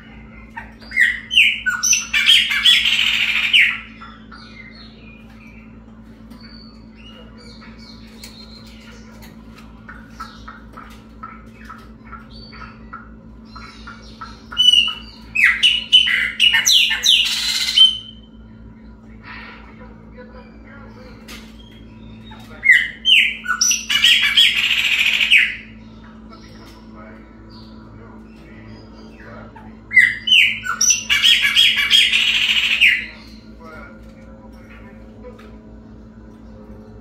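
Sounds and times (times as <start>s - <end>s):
blackbird singing: 0.0s - 34.0s
steady low hum: 0.0s - 37.0s.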